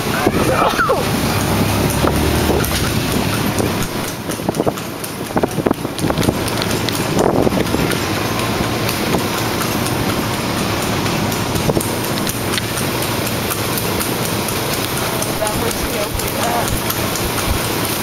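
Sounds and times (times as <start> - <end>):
open vehicle rushing noise: 0.0 - 18.0
rattles and knocks: 1.2 - 18.0.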